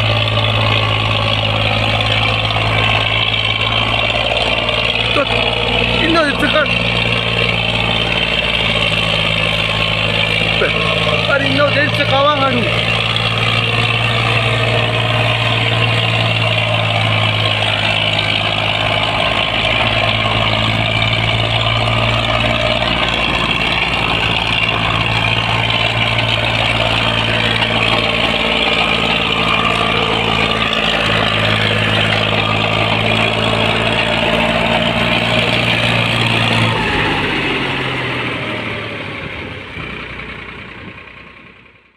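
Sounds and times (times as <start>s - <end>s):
tractor engines running under load: 0.0s - 41.9s.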